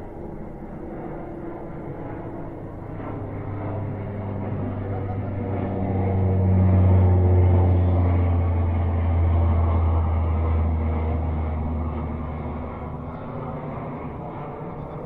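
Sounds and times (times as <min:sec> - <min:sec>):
turboprop airplane propeller drone: 0:00.0 - 0:15.0.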